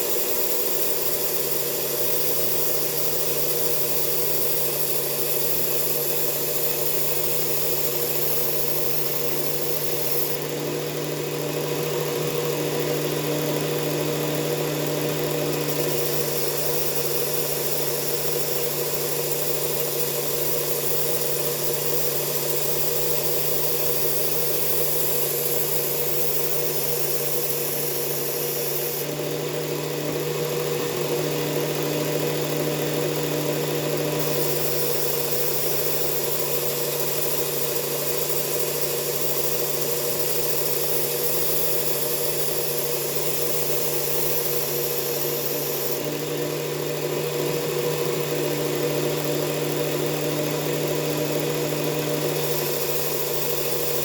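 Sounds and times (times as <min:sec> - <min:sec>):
belt sharpener motor running: 0:00.0 - 0:54.0.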